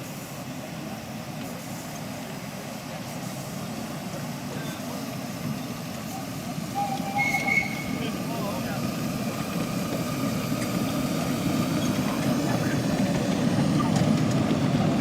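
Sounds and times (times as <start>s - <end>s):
miniature locomotive rumble: 0.7s - 15.0s.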